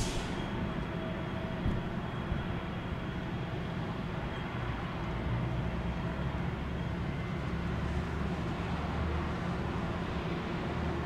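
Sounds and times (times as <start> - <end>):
low rumble of vehicles: 0.0 - 11.0.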